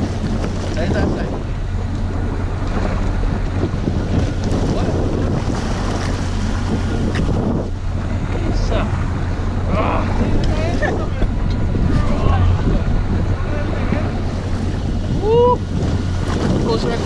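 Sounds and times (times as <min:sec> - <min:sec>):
low engine hum: 0:00.0 - 0:17.0
wind buffeting microphone: 0:00.0 - 0:17.0.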